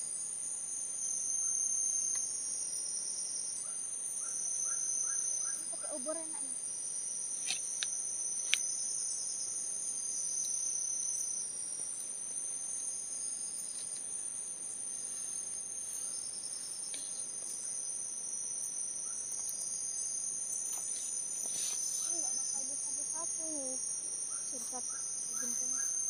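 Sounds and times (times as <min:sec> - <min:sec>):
insects shrilling: 0:01.0 - 0:26.0.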